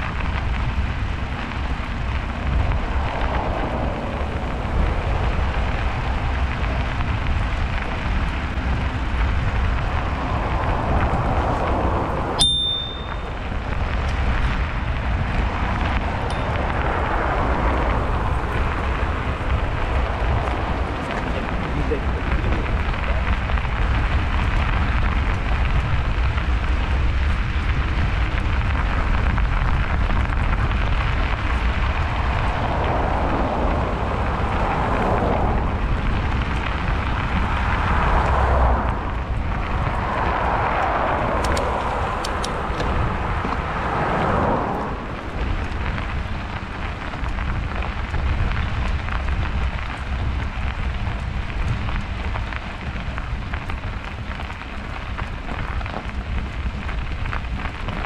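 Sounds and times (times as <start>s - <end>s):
bicycle tyres on snowy road: 0.0s - 58.0s
wind buffeting microphone: 0.0s - 58.0s.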